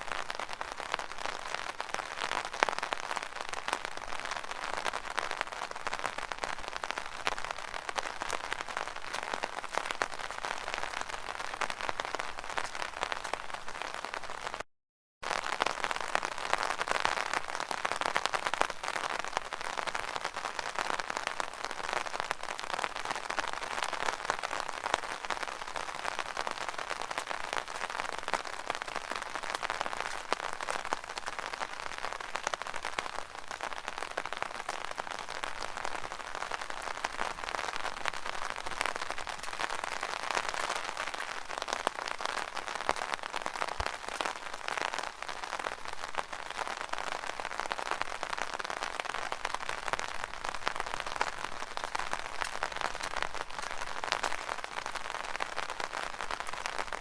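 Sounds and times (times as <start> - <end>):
rain drumming on an umbrella: 0.0 - 57.0.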